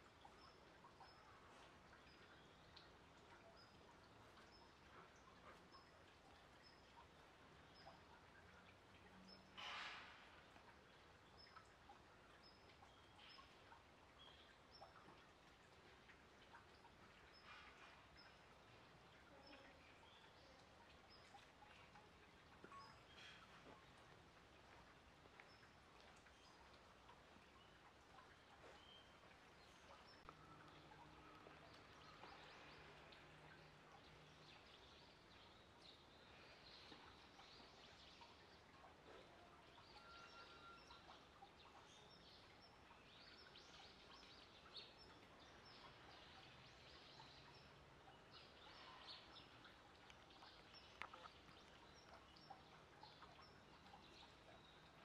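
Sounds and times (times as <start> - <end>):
faint high chirps and ticks: 0.0 - 55.0.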